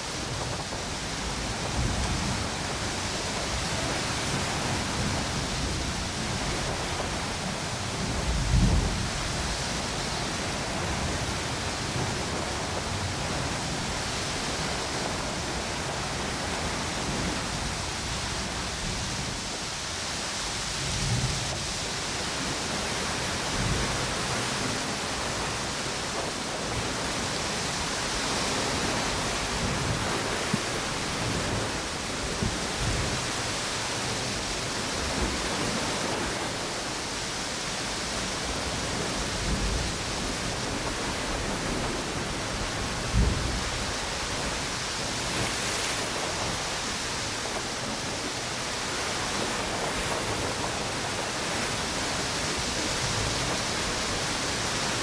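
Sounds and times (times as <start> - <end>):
ocean surf: 0.0 - 55.0
wind: 0.0 - 55.0.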